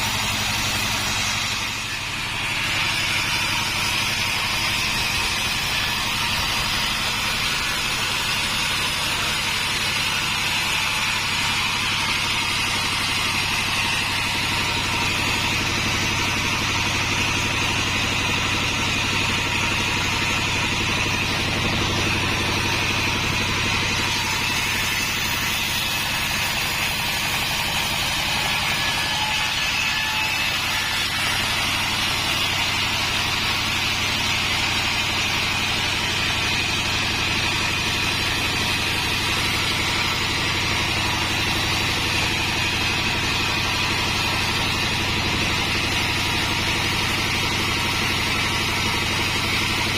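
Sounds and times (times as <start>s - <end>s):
sawmill motor humming and whining: 0.0s - 49.9s.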